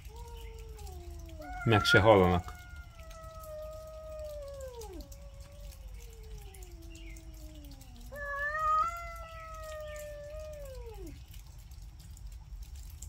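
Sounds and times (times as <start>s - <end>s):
cats yowling: 0.0s - 11.4s.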